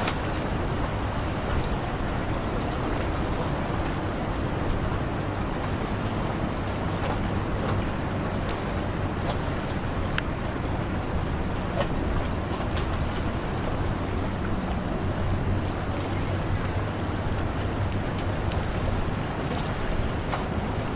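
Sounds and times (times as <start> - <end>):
boat engines rumbling: 0.0 - 20.9
waves breaking: 0.0 - 20.9
wind on microphone: 0.0 - 20.9.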